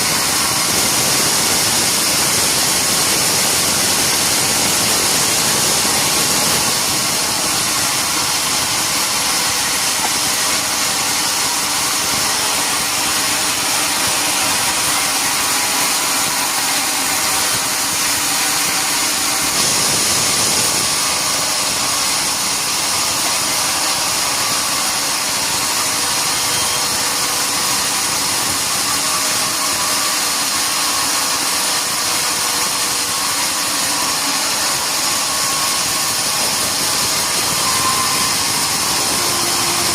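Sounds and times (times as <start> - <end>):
saw cutting through wood: 0.0 - 39.9.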